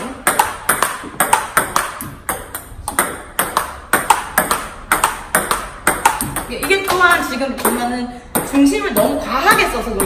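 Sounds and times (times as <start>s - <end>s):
ping pong ball clicking: 0.0s - 10.0s.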